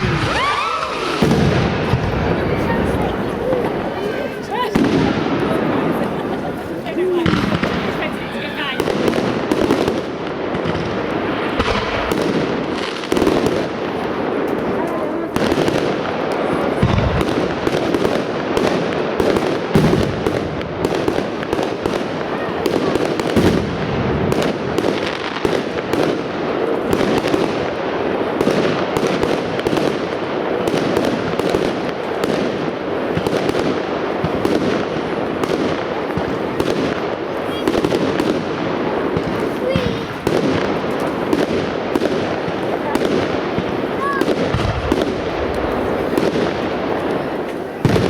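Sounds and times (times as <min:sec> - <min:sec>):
deep firework booms: 0:00.0 - 0:48.0
fireworks bangs and crackle: 0:00.0 - 0:48.0.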